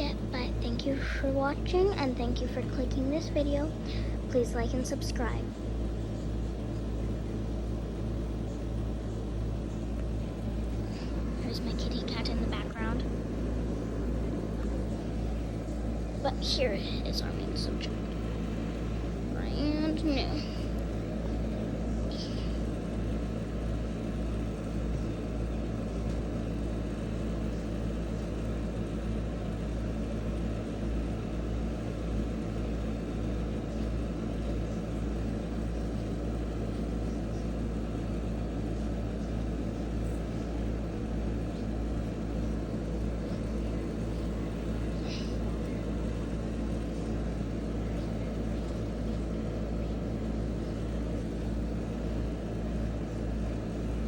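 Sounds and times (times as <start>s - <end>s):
low hum and rumble: 0.0s - 54.0s
steady white noise: 0.0s - 54.0s.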